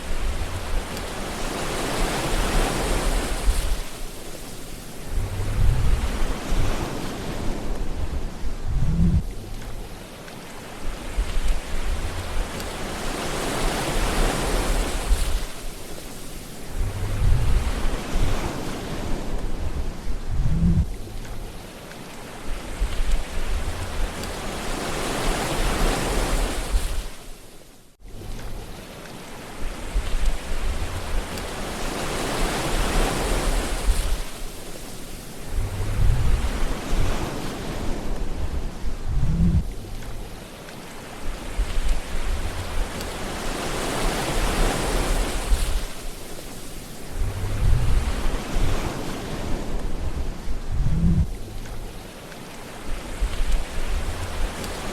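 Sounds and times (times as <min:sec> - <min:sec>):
sea waves breaking on shore: 0:00.0 - 0:54.9.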